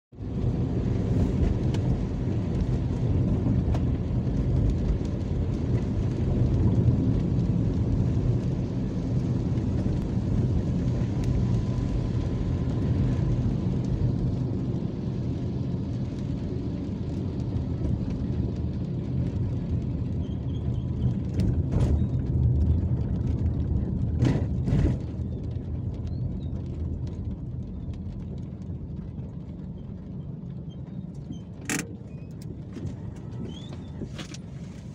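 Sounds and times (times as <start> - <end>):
vehicle rumble on wet road: 0.1 - 34.9.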